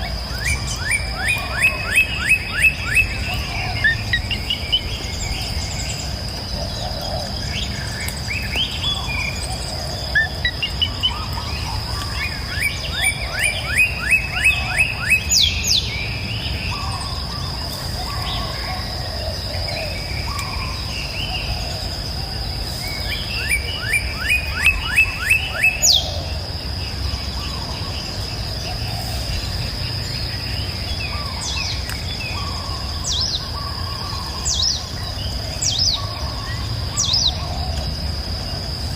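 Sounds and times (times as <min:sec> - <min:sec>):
bird chorus chirping: 0:00.0 - 0:38.9.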